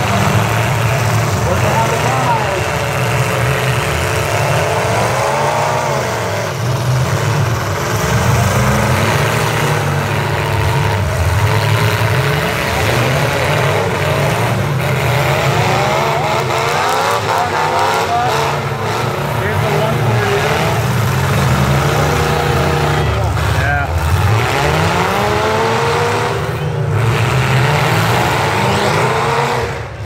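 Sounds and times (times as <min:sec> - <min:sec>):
truck engines revving hard: 0:00.0 - 0:30.0.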